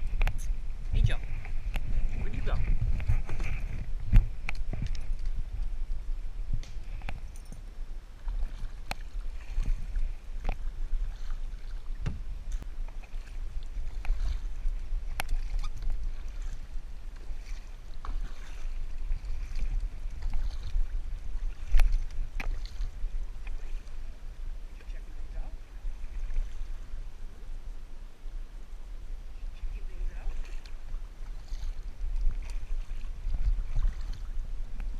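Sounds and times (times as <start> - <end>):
paddle splashing water: 0.0 - 7.3, 8.0 - 27.7, 29.4 - 34.9
low rumble: 0.0 - 30.5.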